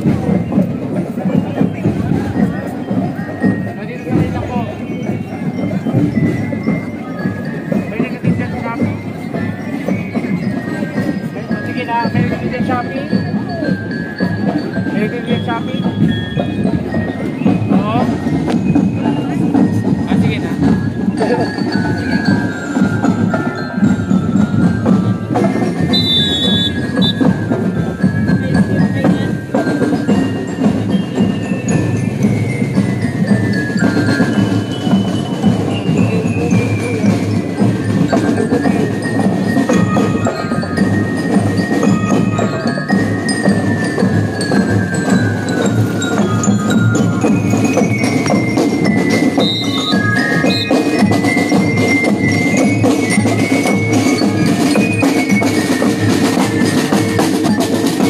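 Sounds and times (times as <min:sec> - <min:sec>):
bell lyres playing melody: 0:00.0 - 0:58.0
snare and bass drums: 0:00.0 - 0:58.0.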